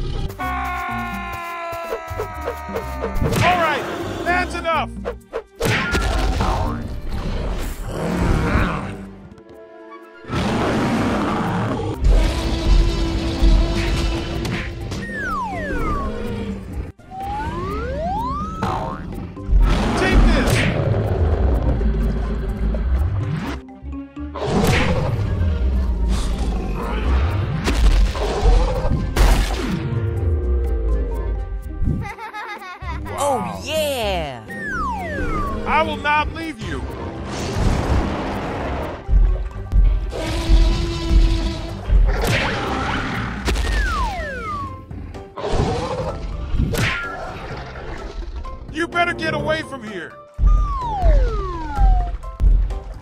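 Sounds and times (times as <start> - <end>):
cartoon action music: 0.0 - 9.1, 9.9 - 52.8.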